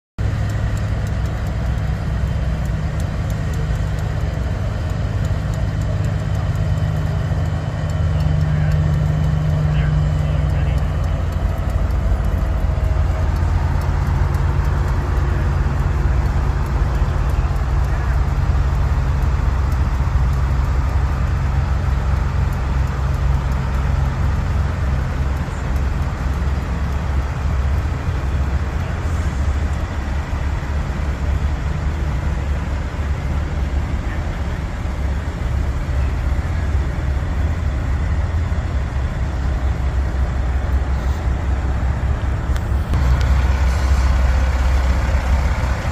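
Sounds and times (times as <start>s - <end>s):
diesel trucks driving past: 0.2s - 45.9s.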